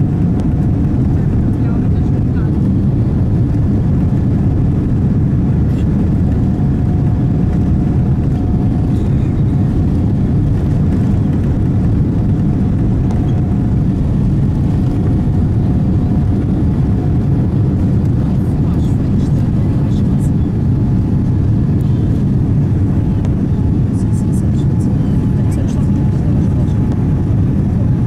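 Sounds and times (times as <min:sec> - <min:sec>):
faint whine: 0:00.0 - 0:28.0
low rumble of aircraft engines: 0:00.0 - 0:28.0.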